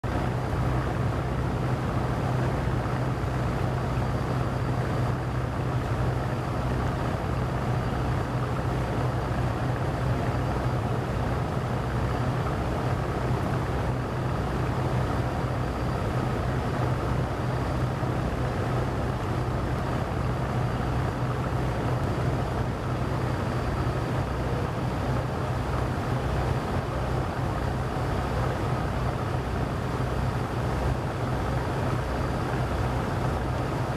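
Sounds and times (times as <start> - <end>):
boat engine droning: 0.0 - 33.9.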